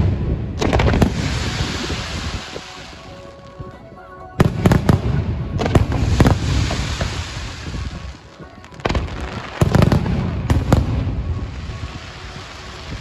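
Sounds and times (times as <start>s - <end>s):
fireworks bangs: 0.0s - 13.0s
fireworks crackling hiss: 0.0s - 13.0s.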